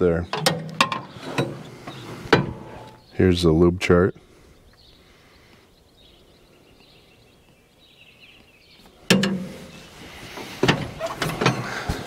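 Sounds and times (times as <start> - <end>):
bird chirps: 0.1 - 10.2.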